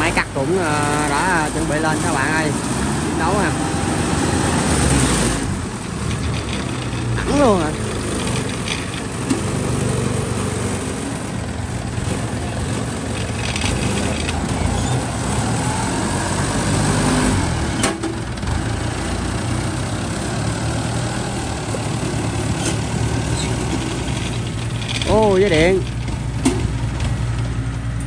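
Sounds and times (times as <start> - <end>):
harvester engine running: 0.0 - 28.0.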